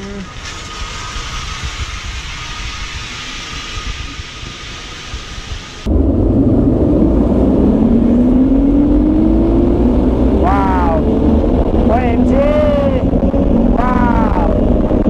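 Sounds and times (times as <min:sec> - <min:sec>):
wind rush: 0:00.0 - 0:15.0
zipline pulley whine: 0:00.0 - 0:15.0.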